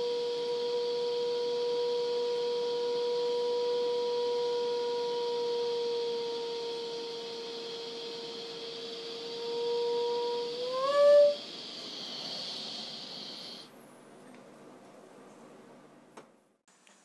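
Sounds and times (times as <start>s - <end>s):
test tube whistle: 0.0s - 13.8s
steady hiss: 0.0s - 14.2s.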